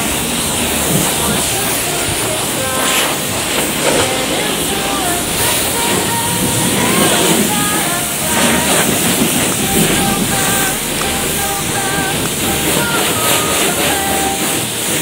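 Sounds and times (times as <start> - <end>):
pressure washer spray hissing: 0.0 - 15.0.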